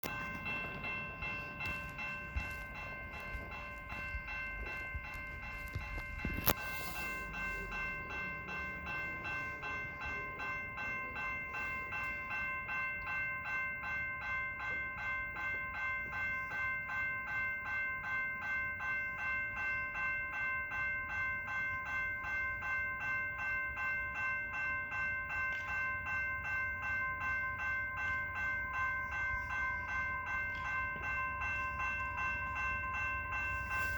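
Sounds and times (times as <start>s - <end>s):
level crossing bell ringing: 0.0s - 33.9s.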